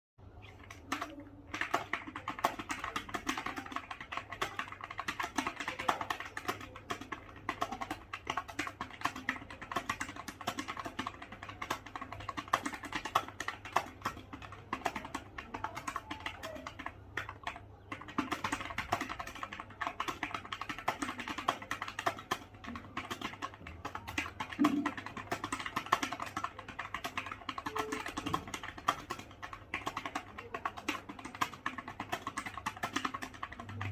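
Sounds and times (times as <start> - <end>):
fast typing on keyboard: 0.4 - 33.9.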